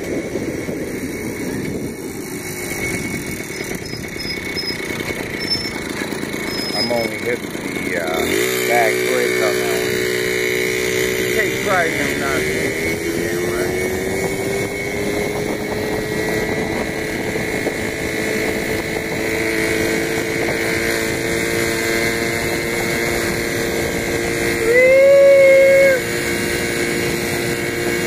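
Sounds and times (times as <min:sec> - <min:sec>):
moped engine running: 0:00.0 - 0:28.0
loud wavering tone: 0:01.2 - 0:28.0.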